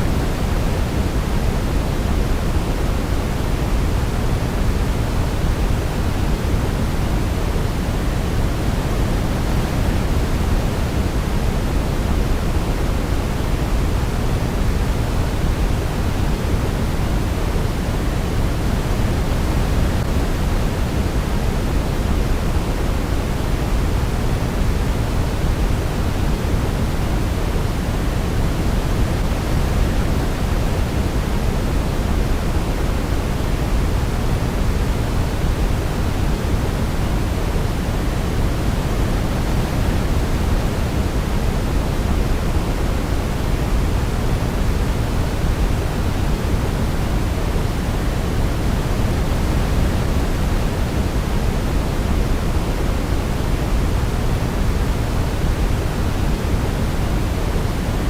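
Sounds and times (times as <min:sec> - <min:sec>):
steady pink noise hiss: 0:00.0 - 0:58.0.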